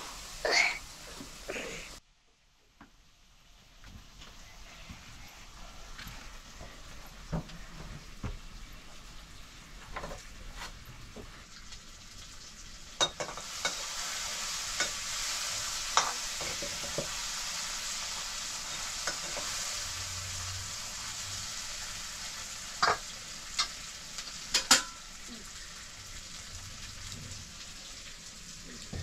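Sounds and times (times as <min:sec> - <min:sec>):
food sizzling in hot oil: 0:00.0 - 0:02.0, 0:06.3 - 0:29.0.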